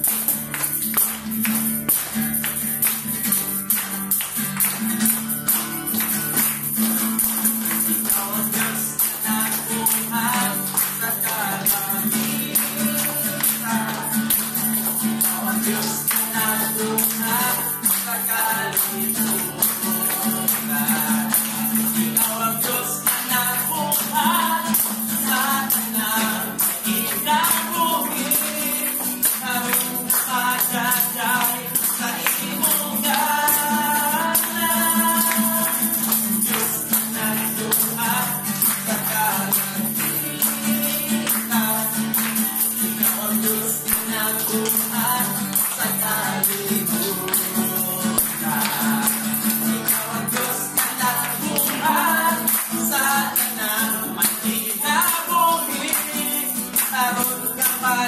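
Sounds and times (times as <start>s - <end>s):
hand clapping: 0.0s - 58.0s
strummed acoustic guitar: 0.0s - 58.0s
tambourine shaken: 0.0s - 58.0s
congregation singing: 5.9s - 58.0s.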